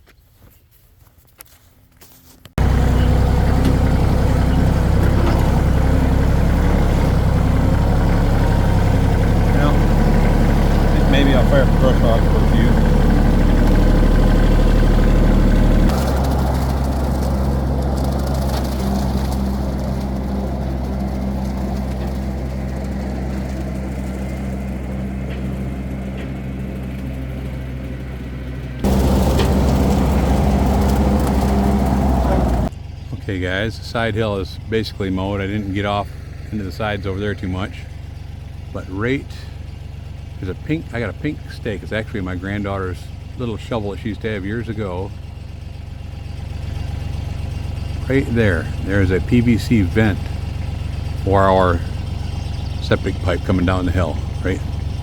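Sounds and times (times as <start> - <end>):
tractor engine running: 2.5 - 55.0.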